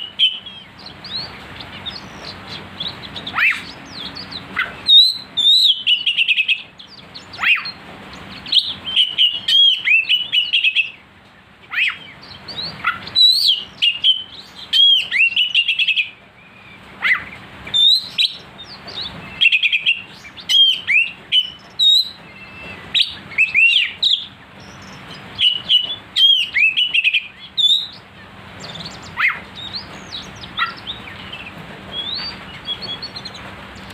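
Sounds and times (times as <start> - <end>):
bird singing whistled notes: 0.0 - 11.0, 11.7 - 33.9.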